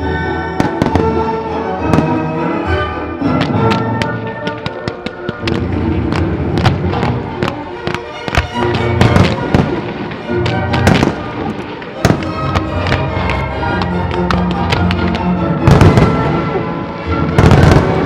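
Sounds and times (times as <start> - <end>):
music soundtrack: 0.0 - 18.0
fireworks bangs: 0.6 - 2.3, 3.2 - 18.0.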